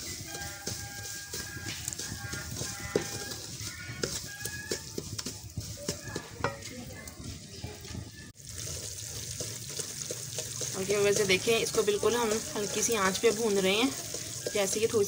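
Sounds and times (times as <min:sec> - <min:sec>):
light sizzle: 0:00.0 - 0:15.0
wooden spatula scraping a pan: 0:00.0 - 0:15.0.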